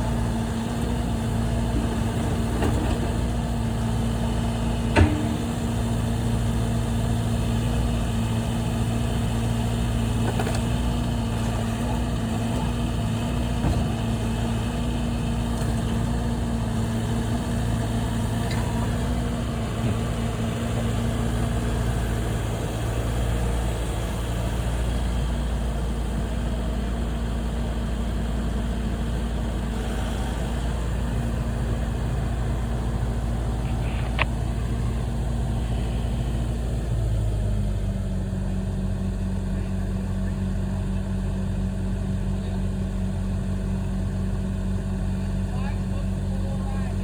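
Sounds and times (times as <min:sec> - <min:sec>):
heavy equipment engine running: 0:00.0 - 0:47.0.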